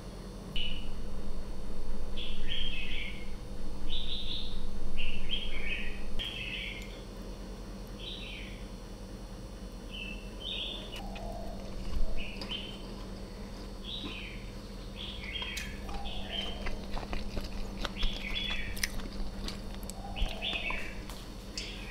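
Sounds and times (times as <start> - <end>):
low hum: 0.0 - 21.9
small birds chirping: 2.1 - 7.0, 7.9 - 8.7, 9.8 - 21.9.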